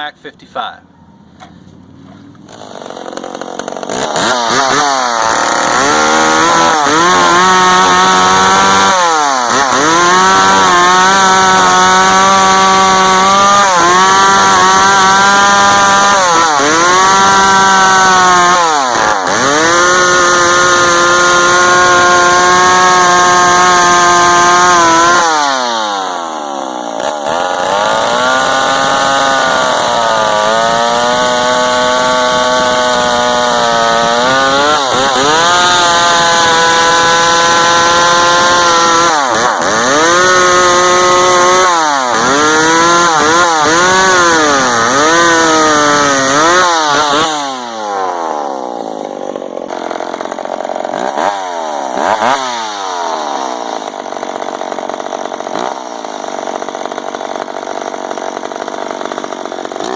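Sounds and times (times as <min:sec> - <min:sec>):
chainsaw engine revving: 0:01.8 - 0:59.9.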